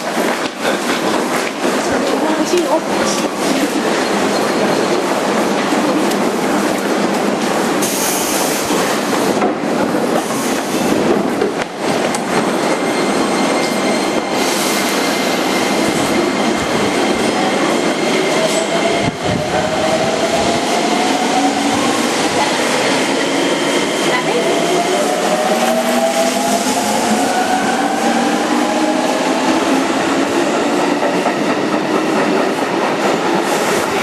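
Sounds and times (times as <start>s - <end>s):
train wheel and rail rumble: 0.0s - 34.0s.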